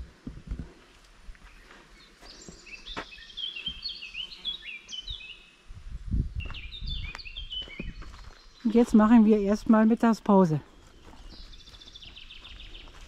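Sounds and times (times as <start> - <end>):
songbird chirping: 0.8 - 13.0.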